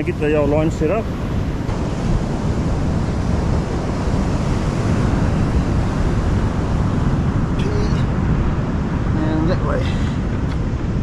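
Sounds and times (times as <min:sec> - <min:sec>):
surf rushing: 0:00.0 - 0:11.0
wind noise on microphone: 0:00.0 - 0:11.0.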